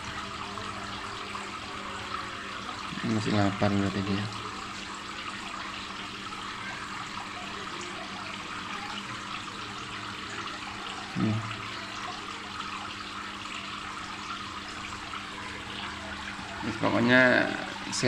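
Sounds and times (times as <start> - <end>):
water trickling into a pond: 0.0 - 18.0.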